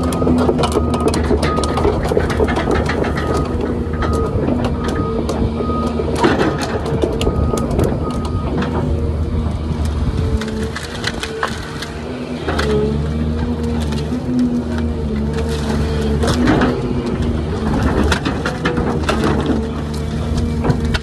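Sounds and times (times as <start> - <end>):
branches cracking and snapping: 0.0 - 21.0
excavator engine and hydraulics: 0.0 - 21.0.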